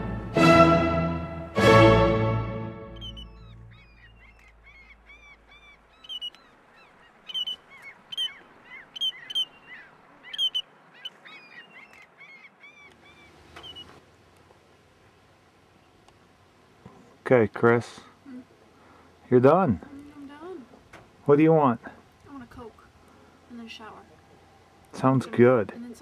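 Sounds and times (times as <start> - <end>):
faint background noise: 2.7 - 26.0
birds chirping: 2.8 - 14.1, 15.6 - 26.0.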